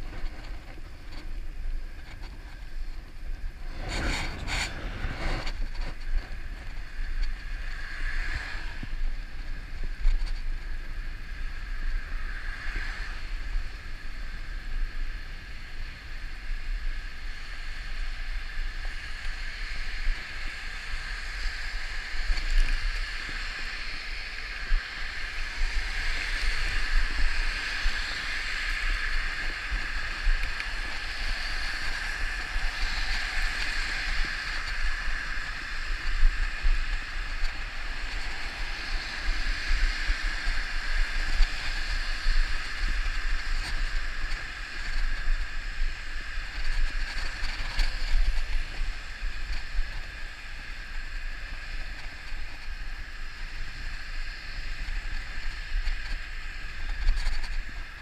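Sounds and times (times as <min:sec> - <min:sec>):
bicycle tyres hissing on wet road: 0:00.0 - 0:58.0
wind buffeting microphone: 0:00.0 - 0:58.0.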